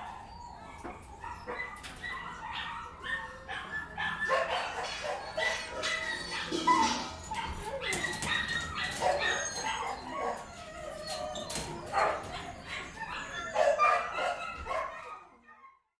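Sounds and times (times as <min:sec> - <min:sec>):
dogs barking and whining: 0:00.0 - 0:15.9.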